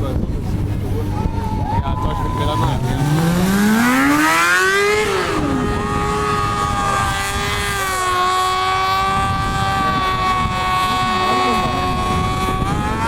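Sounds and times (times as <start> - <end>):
motorcycle engine revving: 2.0 - 13.0.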